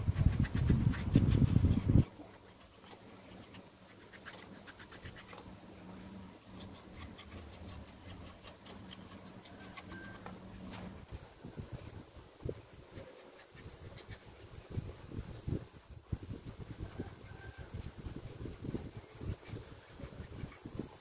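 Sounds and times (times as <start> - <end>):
brush scratching on turning wood: 0.0 - 21.0.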